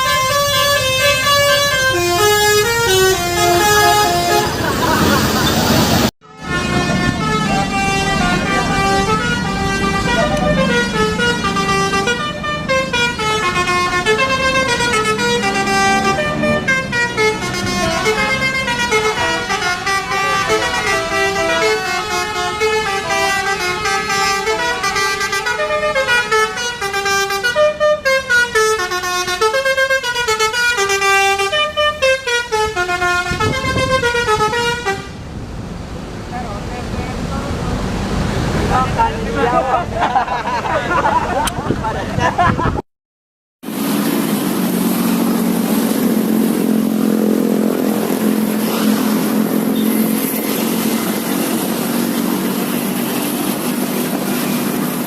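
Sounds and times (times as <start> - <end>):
bus air horn melody: 0.0 - 35.2, 43.7 - 55.0.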